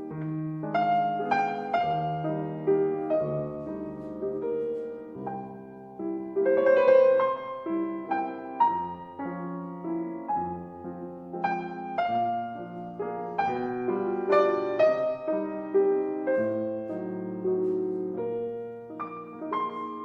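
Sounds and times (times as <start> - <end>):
slow gentle solo piano: 0.0 - 20.0.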